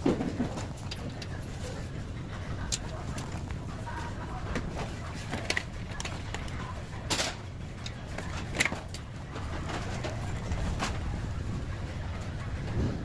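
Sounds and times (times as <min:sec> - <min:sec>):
shopping cart wheels rumbling: 0:00.0 - 0:13.0.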